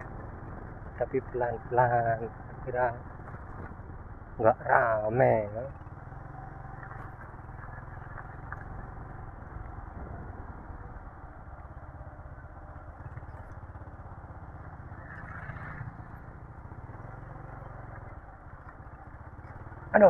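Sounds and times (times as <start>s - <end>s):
motorcycle engine running: 0.0s - 20.0s
scooter passing by: 0.0s - 20.0s.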